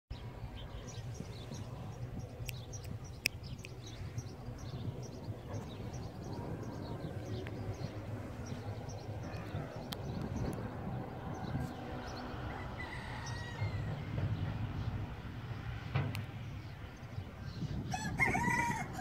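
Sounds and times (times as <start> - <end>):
small birds chirping: 0.1 - 18.5.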